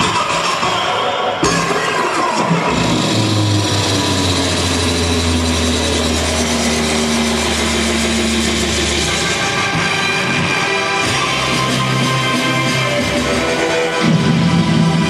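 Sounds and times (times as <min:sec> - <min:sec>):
low mechanical drone: 0:02.6 - 0:15.0.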